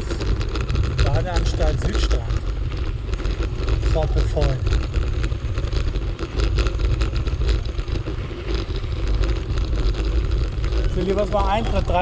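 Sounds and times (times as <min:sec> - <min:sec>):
bicycle tyres on gravel: 0:00.0 - 0:12.0
wind rumble on microphone: 0:00.0 - 0:12.0.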